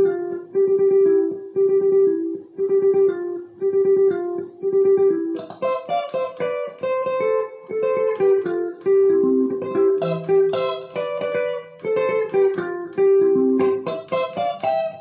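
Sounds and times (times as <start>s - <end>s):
electric guitar lead line: 0.0s - 15.0s.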